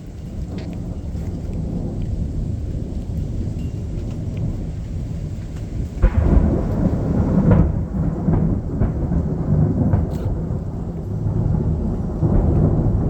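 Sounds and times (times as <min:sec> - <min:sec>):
thunder crack and rumble: 0:00.0 - 0:13.0.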